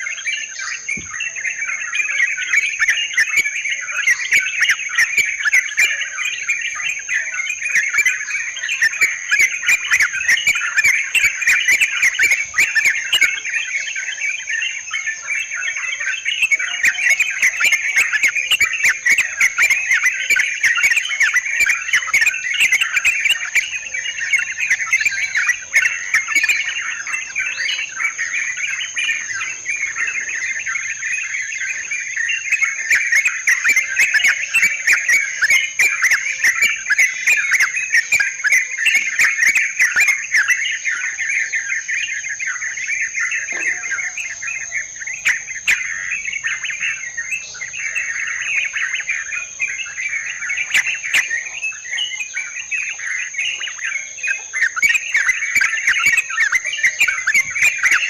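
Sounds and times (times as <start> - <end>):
flock of birds chattering: 0.0 - 58.0.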